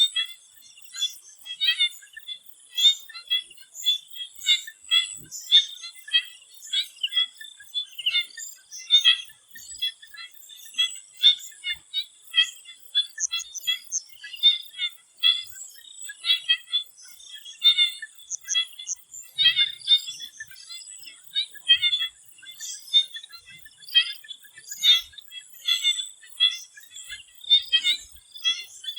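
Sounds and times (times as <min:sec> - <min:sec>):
chorus of frogs calling: 0:00.1 - 0:28.9.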